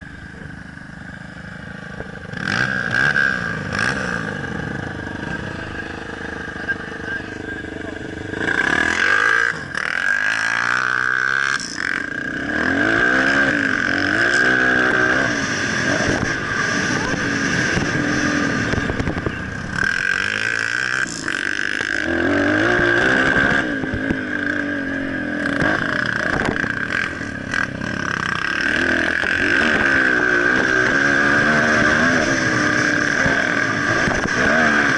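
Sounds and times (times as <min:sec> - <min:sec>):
high-pitched whine: 0:00.0 - 0:34.9
motocross bike engine revving: 0:00.9 - 0:34.9.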